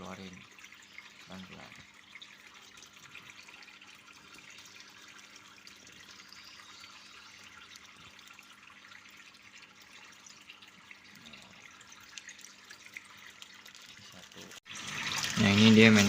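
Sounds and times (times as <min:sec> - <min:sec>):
aquarium water trickling: 0:00.0 - 0:16.0.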